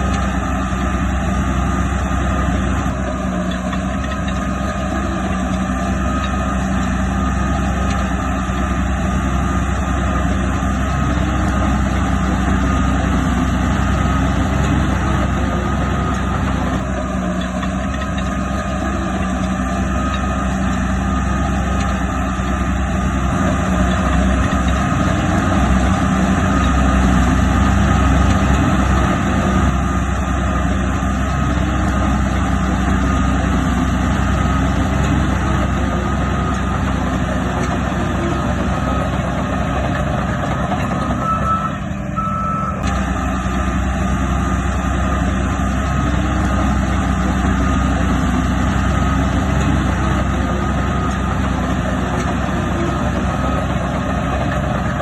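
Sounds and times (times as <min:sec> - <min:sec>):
diesel machinery engine drone: 0:00.0 - 0:55.0.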